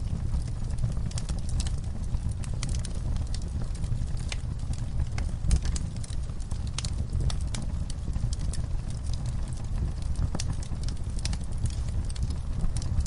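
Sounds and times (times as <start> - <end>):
campfire crackling and popping: 0.0 - 13.0
low fire rumble: 0.0 - 13.0.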